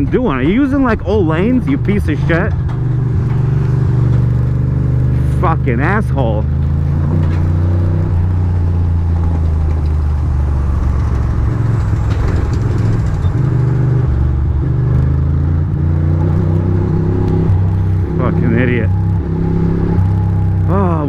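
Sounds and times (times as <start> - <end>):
motorcycle engine running at low revs: 0.0 - 21.0.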